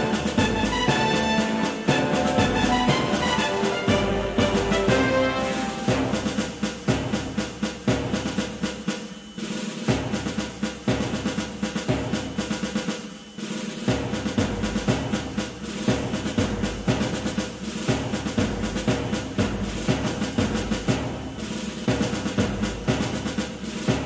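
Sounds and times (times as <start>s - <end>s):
heavy drumming music: 0.0s - 24.0s.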